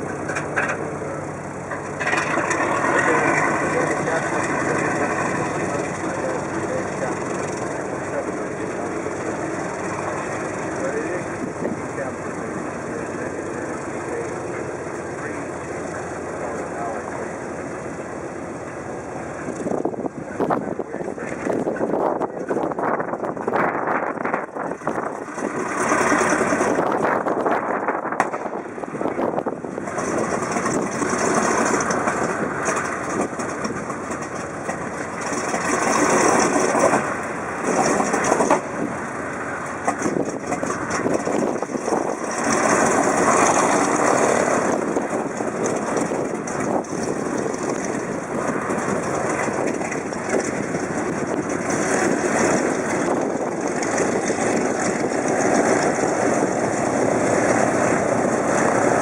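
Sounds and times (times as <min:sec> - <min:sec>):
piston aircraft engine running: 0:00.0 - 0:59.0.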